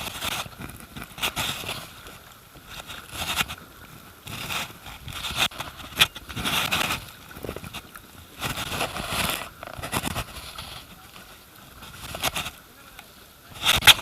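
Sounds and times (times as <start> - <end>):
paddle splashing: 0.0 - 14.0
rushing water: 0.0 - 14.0.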